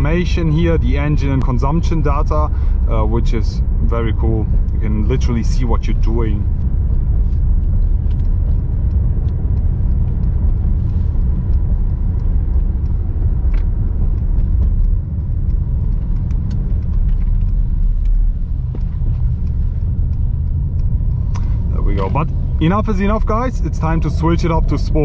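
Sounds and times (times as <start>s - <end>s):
car cabin engine and tyre rumble: 0.0s - 25.0s
light ticks: 0.0s - 25.0s.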